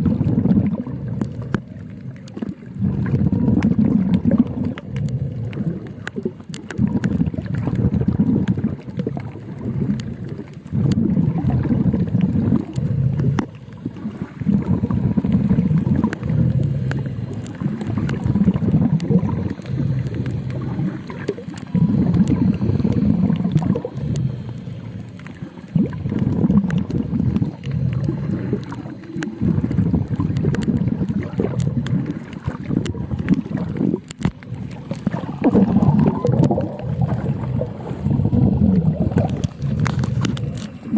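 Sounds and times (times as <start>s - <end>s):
sharp underwater clicks: 0.0s - 40.9s
underwater breath bubbles: 0.0s - 40.9s.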